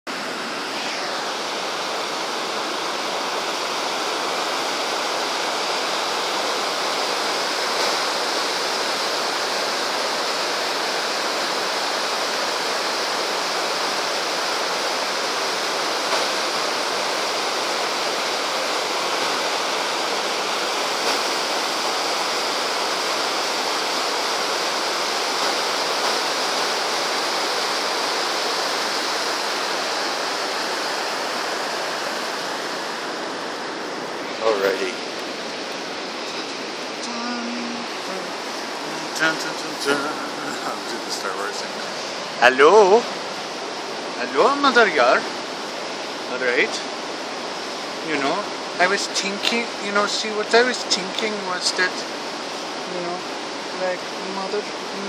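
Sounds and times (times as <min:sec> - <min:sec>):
river rapids roaring: 0:00.1 - 0:55.0.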